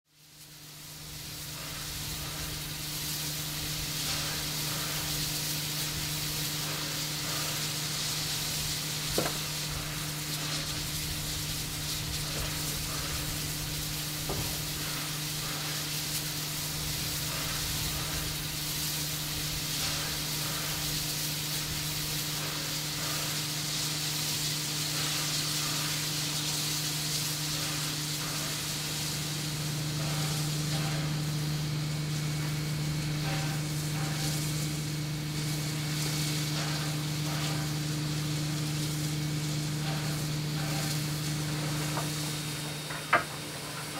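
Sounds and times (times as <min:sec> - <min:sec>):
steam hissing: 0:00.1 - 0:43.9.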